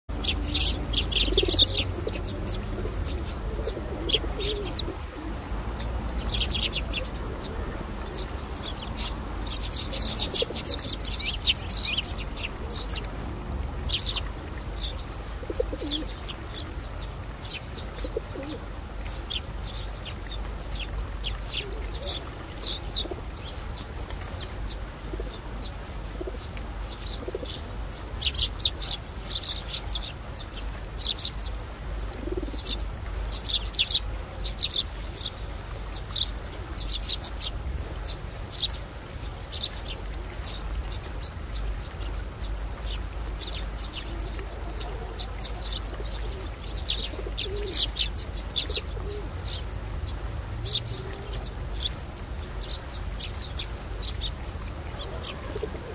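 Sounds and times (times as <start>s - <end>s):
sparrows chirping: 0.1s - 13.2s, 13.8s - 55.9s.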